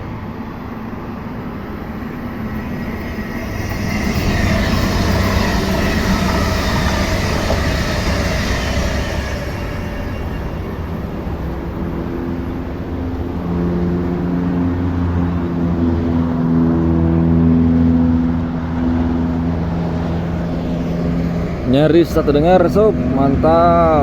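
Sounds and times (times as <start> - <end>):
electric train passing hum: 0.0 - 24.0.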